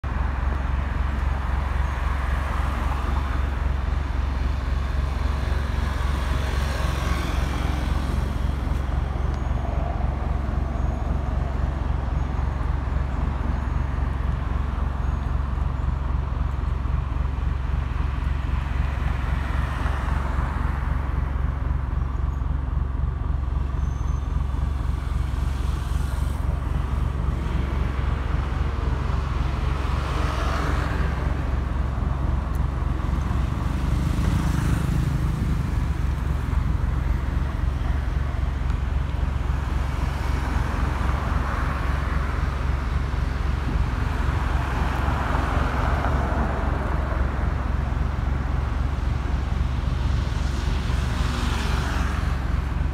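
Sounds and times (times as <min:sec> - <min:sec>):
road traffic: 0:00.0 - 0:52.9.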